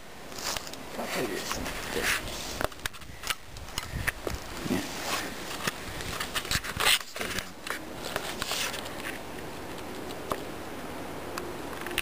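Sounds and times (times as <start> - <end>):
handling rustles and scuffs: 0.3 - 10.1.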